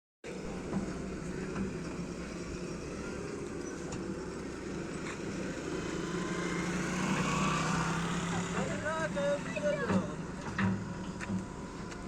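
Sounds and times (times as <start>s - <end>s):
heavy vehicle engine running: 0.3s - 12.0s.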